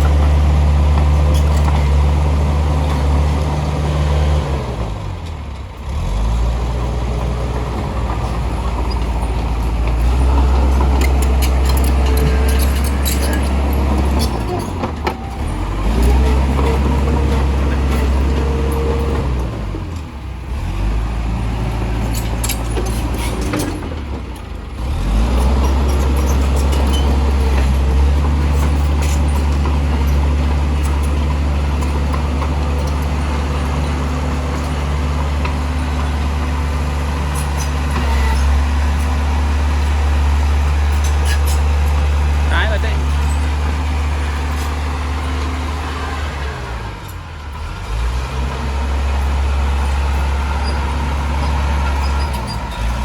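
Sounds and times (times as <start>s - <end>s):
heavy diesel engine under load: 0.0s - 53.0s.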